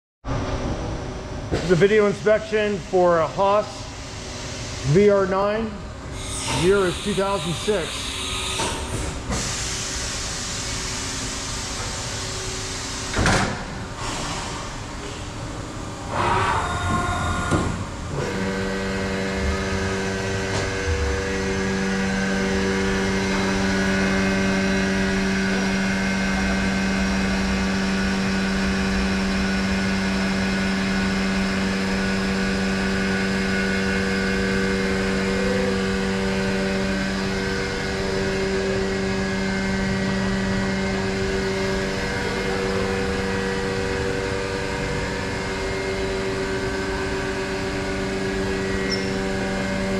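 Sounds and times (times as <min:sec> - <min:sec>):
machine hum of fixed tones: 0:00.3 - 0:49.9.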